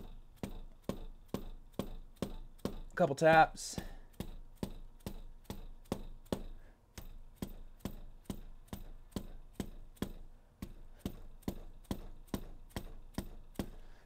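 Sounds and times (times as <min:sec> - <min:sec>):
hammer tapping on metal: 0:00.0 - 0:13.8.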